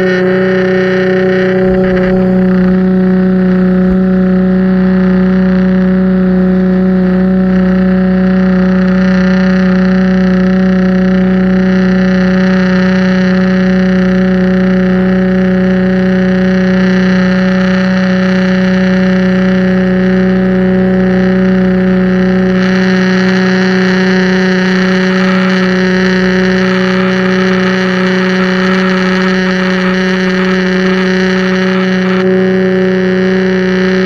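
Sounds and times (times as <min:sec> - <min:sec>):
pressure washer running: 0:00.0 - 0:34.0.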